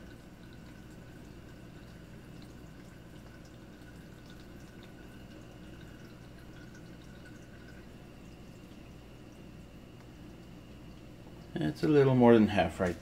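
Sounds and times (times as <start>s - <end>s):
tap water running into tub: 0.0s - 13.0s.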